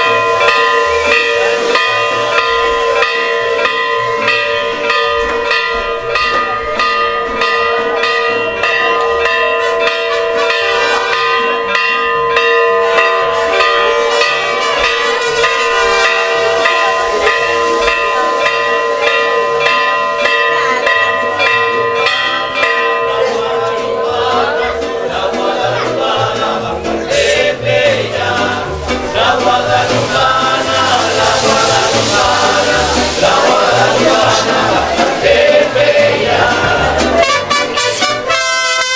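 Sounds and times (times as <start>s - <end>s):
bell ringing rapidly: 0.0s - 38.4s
voices: 0.0s - 38.8s.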